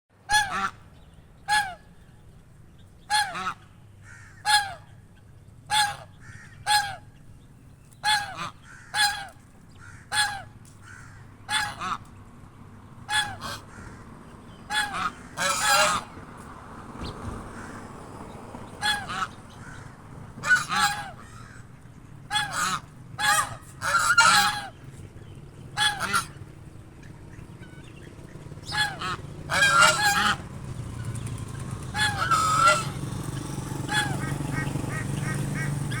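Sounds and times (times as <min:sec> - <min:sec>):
swans honking: 0:00.3 - 0:00.8, 0:01.4 - 0:02.0, 0:03.1 - 0:05.0, 0:05.7 - 0:07.2, 0:07.9 - 0:12.2, 0:13.0 - 0:36.0.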